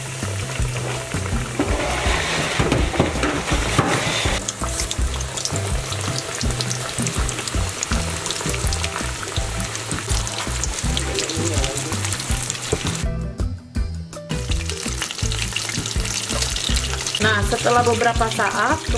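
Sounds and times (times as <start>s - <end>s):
chicken deep-frying in oil: 0.0s - 13.0s, 14.3s - 18.9s.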